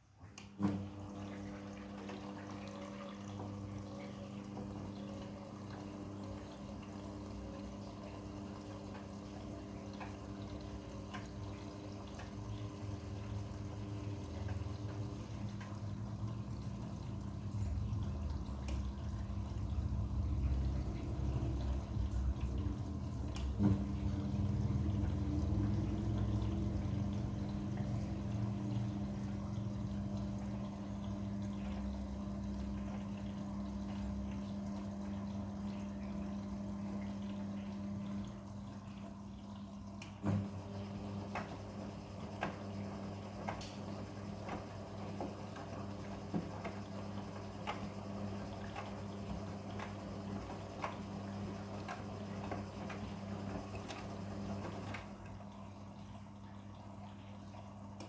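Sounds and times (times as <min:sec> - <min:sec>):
washing machine hum: 0:00.0 - 0:58.0.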